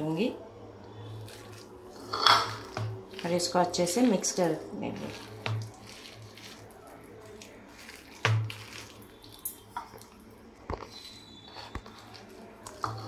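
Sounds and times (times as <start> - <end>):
hands squishing batter: 0.9 - 13.0.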